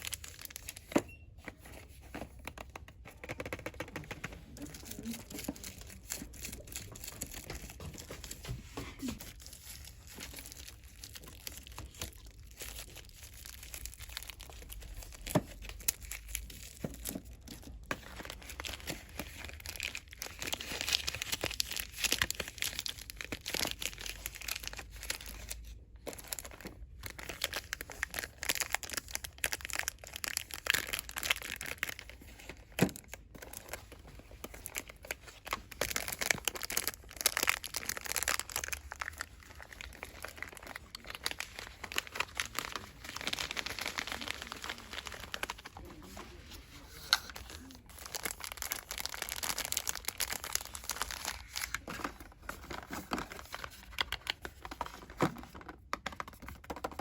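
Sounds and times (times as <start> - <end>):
packaging crinkling and rustling: 0.0 - 57.0.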